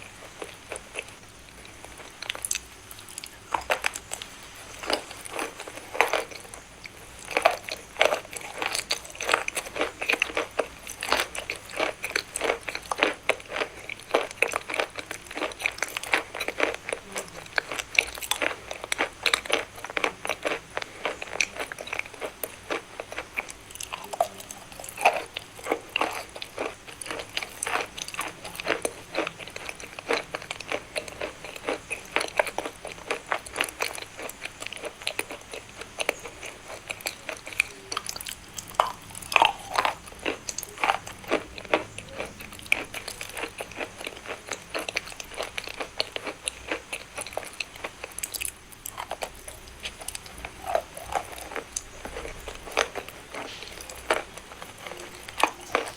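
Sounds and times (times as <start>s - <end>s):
chalk being chewed: 0.1s - 55.9s.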